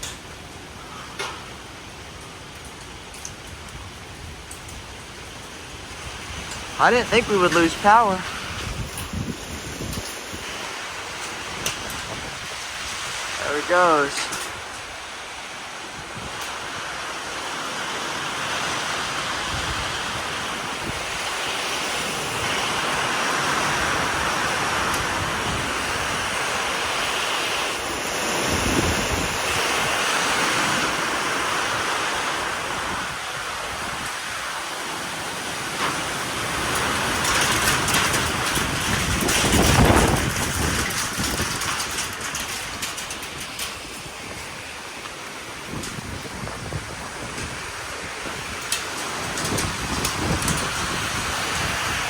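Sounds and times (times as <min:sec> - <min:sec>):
wind roaring in gusts: 0:00.0 - 0:52.0.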